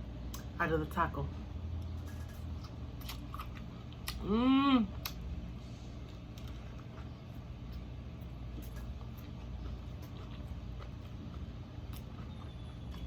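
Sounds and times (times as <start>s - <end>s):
fan humming: 0.0s - 13.0s
taco crunching being chewed: 1.7s - 13.0s.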